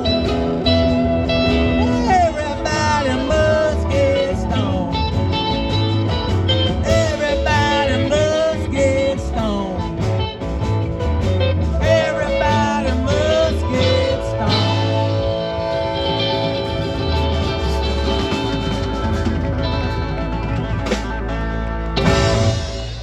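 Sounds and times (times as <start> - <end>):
bluesy rock band playing: 0.0 - 23.0
electric guitar lead line: 0.0 - 23.0.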